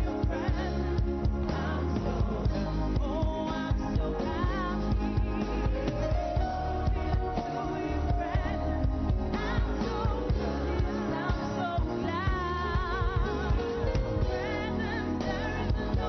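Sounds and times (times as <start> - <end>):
band with steady drum beat: 0.0 - 16.0.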